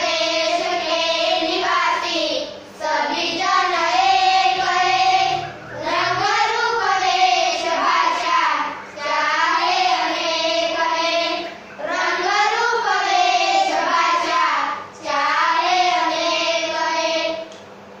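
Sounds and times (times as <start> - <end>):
children singing in unison: 0.0 - 17.5.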